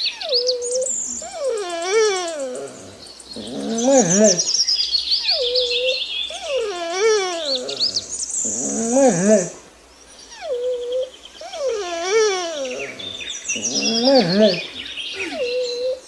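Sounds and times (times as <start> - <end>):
birds chirping: 0.0 - 16.0
animal wavering calls: 0.2 - 4.6, 5.3 - 9.6, 10.3 - 16.0.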